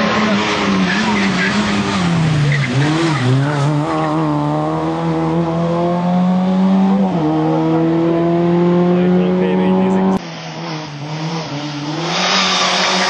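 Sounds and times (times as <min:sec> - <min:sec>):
rally car accelerating past: 0:00.0 - 0:13.0.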